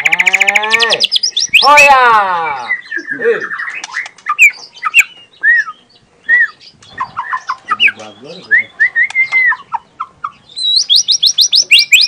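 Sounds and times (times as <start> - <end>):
bird singing whistled notes: 0.0 - 1.9, 2.5 - 9.8, 10.4 - 12.0.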